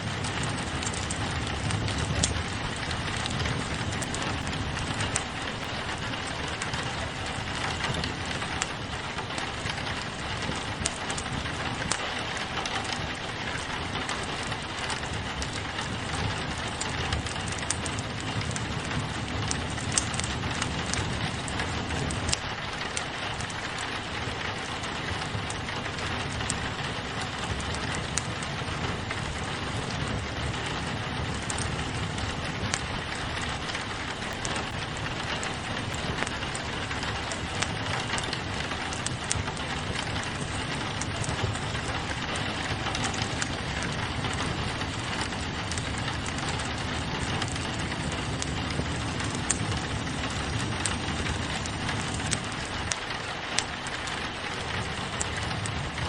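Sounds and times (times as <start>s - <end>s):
rain on a window pane: 0.0s - 56.0s
wood fire crackling: 0.0s - 56.0s.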